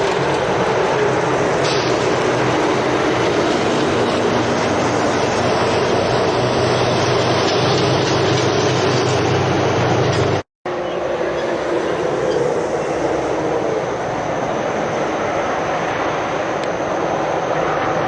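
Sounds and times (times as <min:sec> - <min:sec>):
lorry engine hum: 0:00.0 - 0:18.0.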